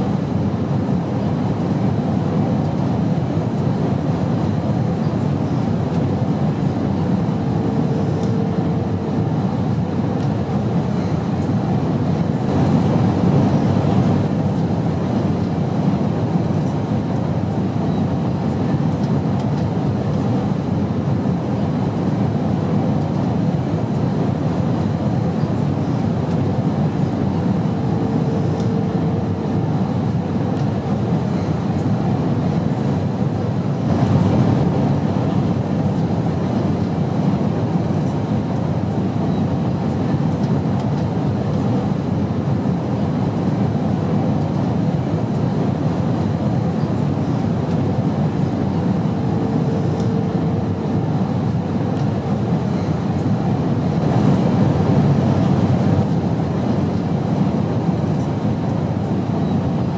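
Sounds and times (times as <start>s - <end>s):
airplane engines rumbling: 0.0s - 59.9s.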